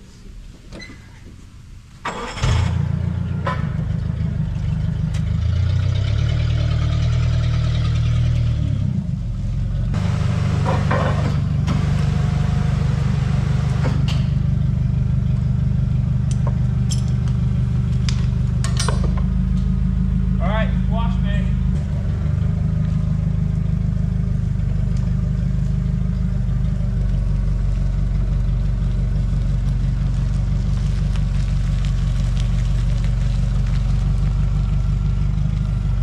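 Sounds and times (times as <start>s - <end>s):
forklift engine running: 2.0s - 36.0s.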